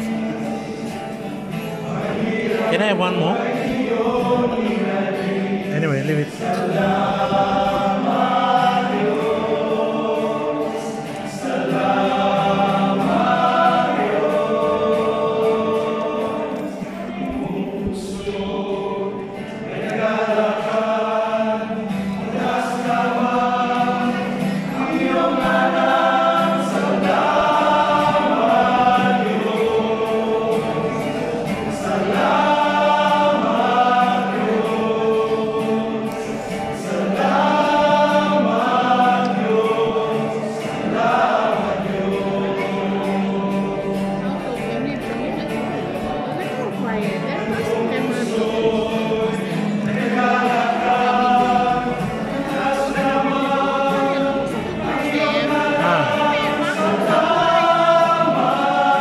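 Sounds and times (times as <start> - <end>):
acoustic guitar: 0.0 - 59.0
choir singing worship song: 0.0 - 59.0.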